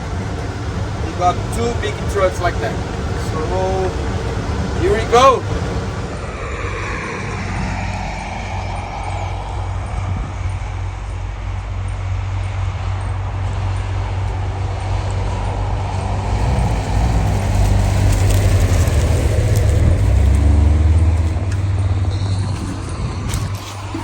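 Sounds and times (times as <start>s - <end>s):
heavy vehicle engine droning: 0.0s - 24.0s.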